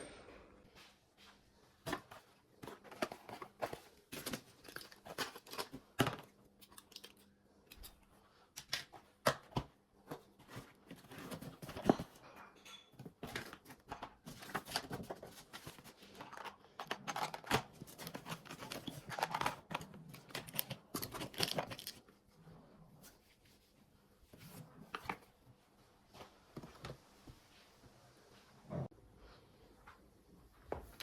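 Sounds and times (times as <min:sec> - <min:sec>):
rustling and crinkling: 0:00.7 - 0:07.3, 0:08.0 - 0:28.6
crackles and scrapes: 0:01.8 - 0:27.8.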